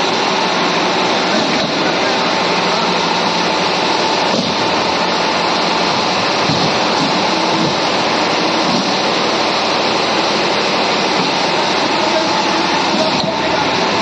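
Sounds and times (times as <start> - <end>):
hydraulic press machine running: 0.0 - 14.0.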